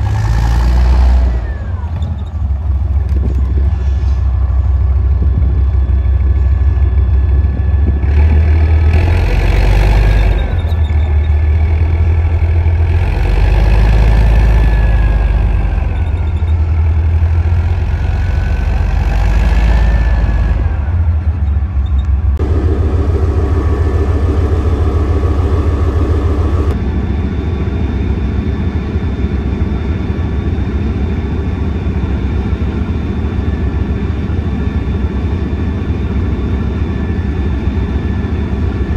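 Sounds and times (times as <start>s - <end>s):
tank diesel engines rumbling: 0.0s - 38.9s.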